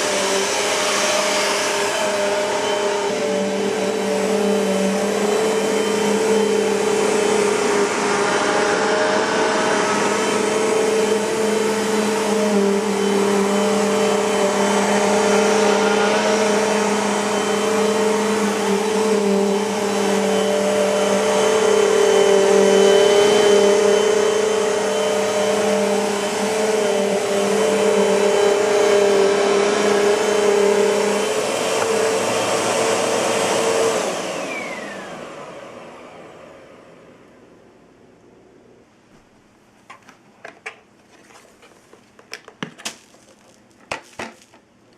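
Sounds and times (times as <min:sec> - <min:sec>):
vacuum cleaner running: 0:00.0 - 0:38.8.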